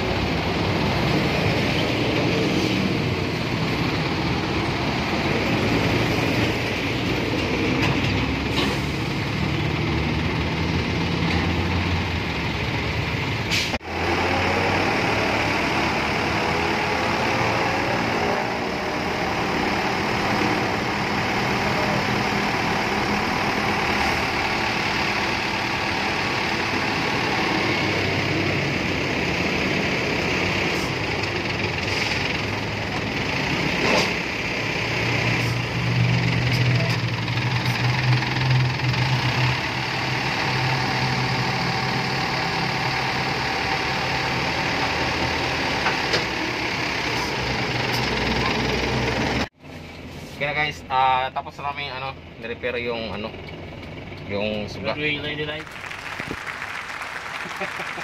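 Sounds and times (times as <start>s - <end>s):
truck engine running: 0.0s - 50.2s, 52.2s - 58.0s.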